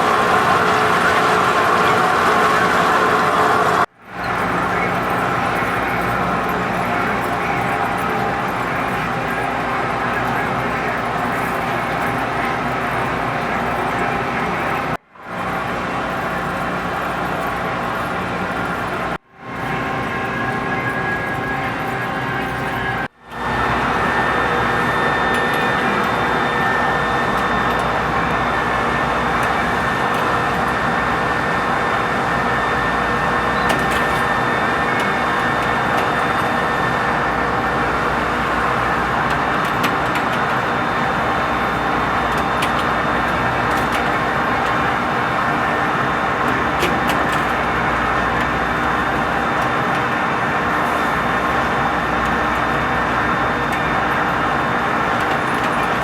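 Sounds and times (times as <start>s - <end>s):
lathe running: 0.0s - 56.0s.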